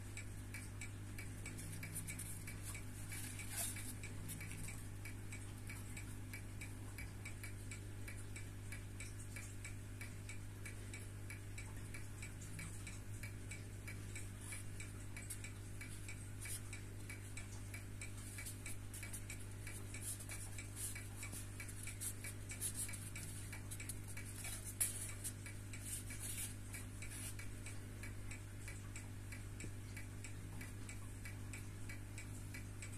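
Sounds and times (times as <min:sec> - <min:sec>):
wristwatch ticking: 0:00.1 - 0:32.9.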